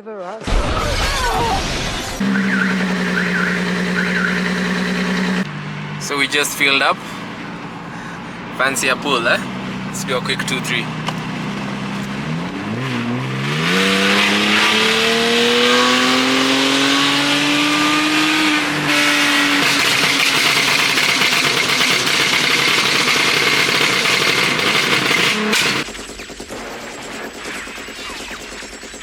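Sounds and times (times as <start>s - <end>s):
car engine revving at full throttle: 2.0s - 27.4s.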